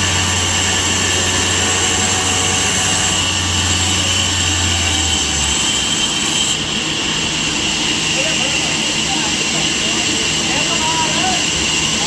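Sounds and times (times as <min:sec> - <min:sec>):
high machine whine: 0:00.0 - 0:12.0
sawmill machinery running: 0:00.0 - 0:12.0.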